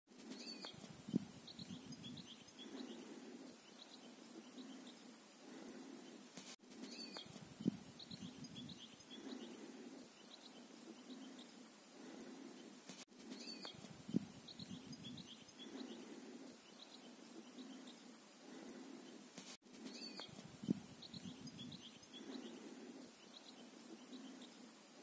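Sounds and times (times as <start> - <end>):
small birds chirping: 0.1 - 25.0.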